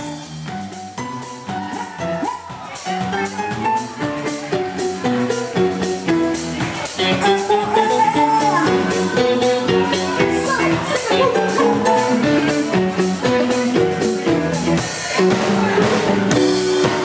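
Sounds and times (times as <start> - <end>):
drum kit beat: 0.0 - 17.0
live band playing dance music: 0.0 - 17.0.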